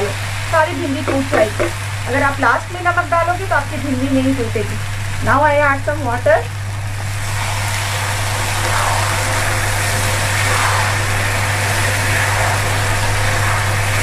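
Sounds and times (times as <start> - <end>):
constant low hum: 0.0 - 14.0
food sizzling and bubbling: 0.0 - 14.0.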